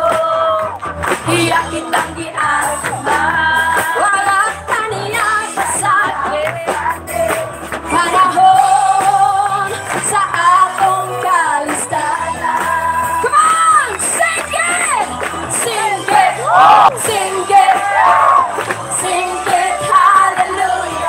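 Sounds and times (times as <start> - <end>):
person singing lead vocal: 0.0 - 13.7, 15.5 - 21.0
live band playing: 0.0 - 21.0.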